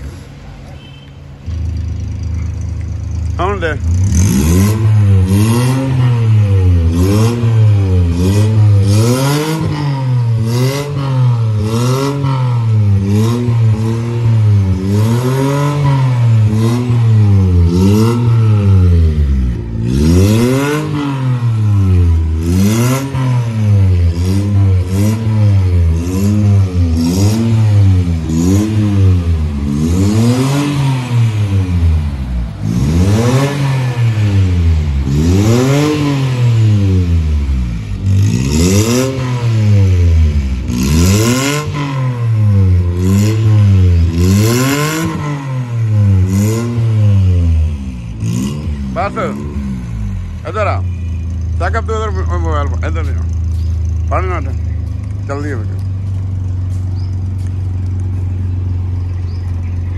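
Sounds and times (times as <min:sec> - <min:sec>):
car engine revving: 0:00.0 - 0:59.9
engine crackles: 0:00.0 - 0:59.9.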